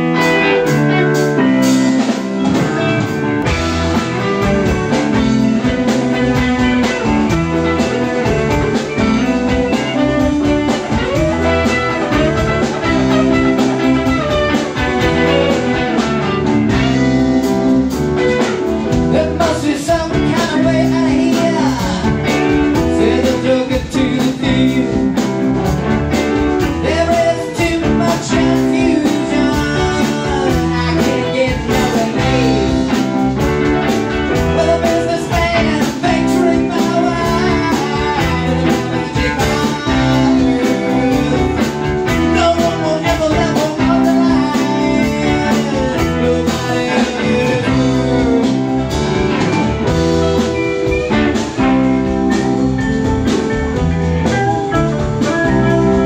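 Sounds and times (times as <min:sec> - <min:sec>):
lead guitar bending notes: 0:00.0 - 0:19.3, 0:30.2 - 0:56.0
live blues-rock band: 0:00.0 - 0:56.0.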